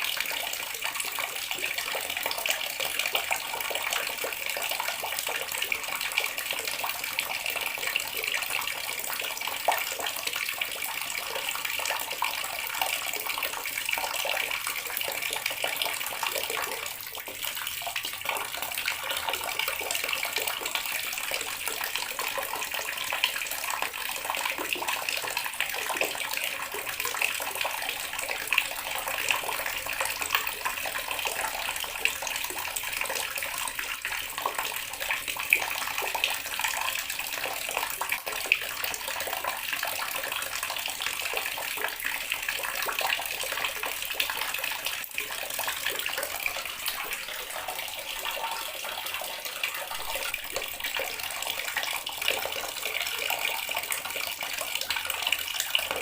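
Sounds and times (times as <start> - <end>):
water running from a tap: 0.0 - 56.0.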